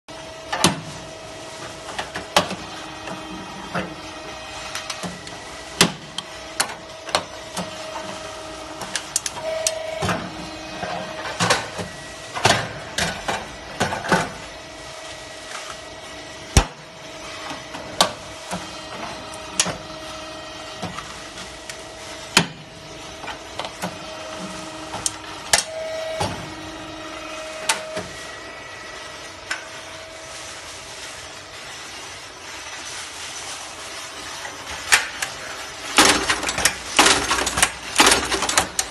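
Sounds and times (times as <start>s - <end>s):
machine hum: 0.1s - 38.9s.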